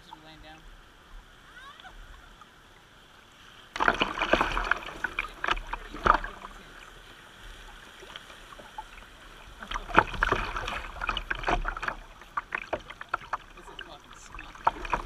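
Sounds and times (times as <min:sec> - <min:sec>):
kayak paddle splashing: 0:00.0 - 0:15.0.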